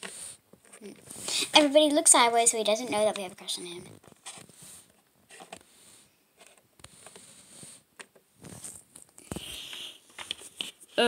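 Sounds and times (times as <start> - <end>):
plastic figurines set on table: 0.0 - 11.0.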